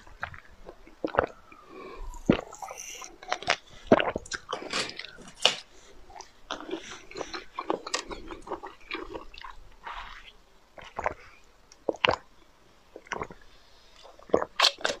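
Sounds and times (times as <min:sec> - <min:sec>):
chewing and sucking candy: 0:00.0 - 0:12.3, 0:12.9 - 0:13.4.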